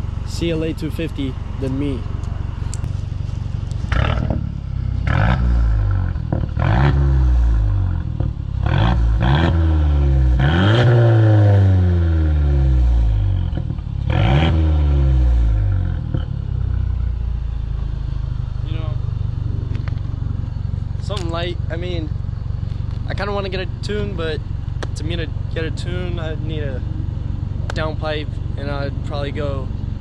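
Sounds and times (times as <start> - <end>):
car engine revving: 0.0 - 30.0
exhaust crackles and pops: 0.3 - 11.6, 13.3 - 17.1, 18.6 - 30.0.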